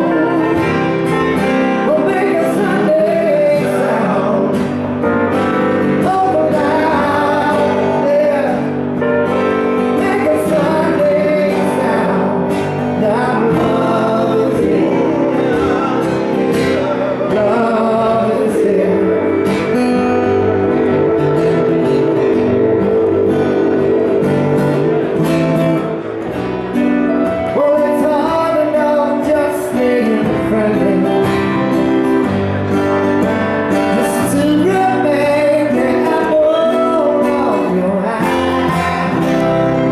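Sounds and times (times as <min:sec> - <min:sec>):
acoustic guitars strumming and picking: 0:00.0 - 0:39.9.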